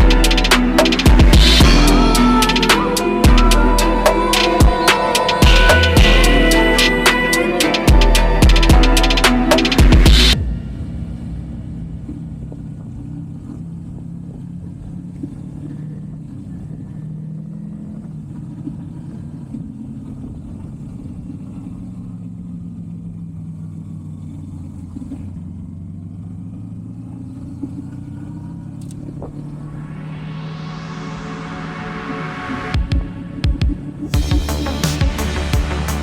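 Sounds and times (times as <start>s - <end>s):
motorcycle engine running: 0.0s - 29.6s, 32.8s - 36.0s.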